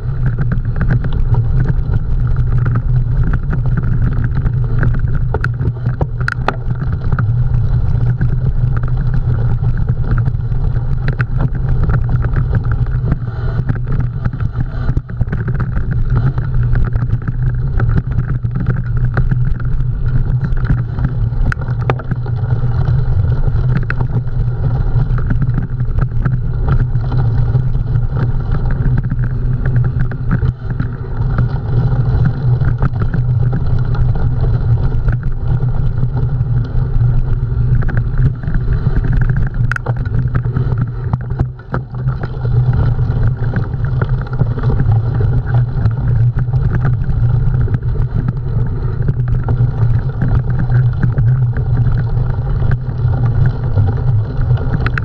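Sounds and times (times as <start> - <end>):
bike clicks and rattles: 0.0 - 55.0
low rumble of bike riding: 0.0 - 55.0.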